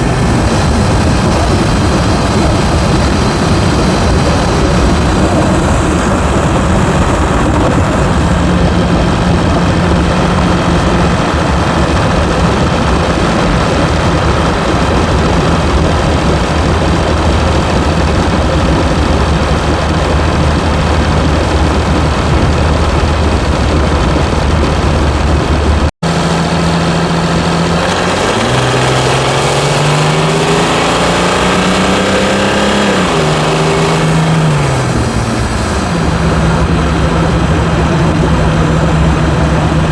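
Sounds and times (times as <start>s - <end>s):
diesel car engine accelerating: 0.0s - 39.9s.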